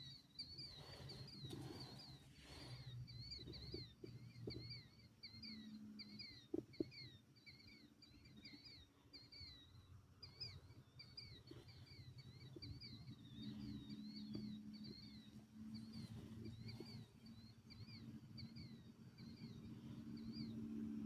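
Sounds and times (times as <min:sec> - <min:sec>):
bird chirping: 0:00.0 - 0:21.0
low hum: 0:00.1 - 0:21.0.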